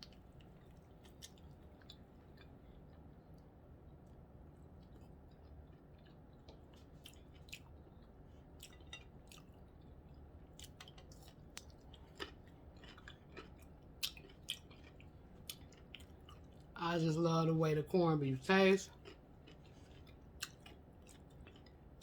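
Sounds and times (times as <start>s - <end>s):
chewing sandwich: 0.0s - 16.8s, 18.8s - 22.0s.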